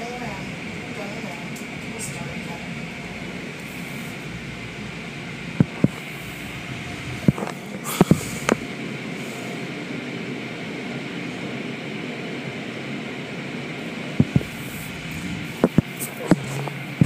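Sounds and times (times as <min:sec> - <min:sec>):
car wash spray and machinery: 0:00.0 - 0:17.0.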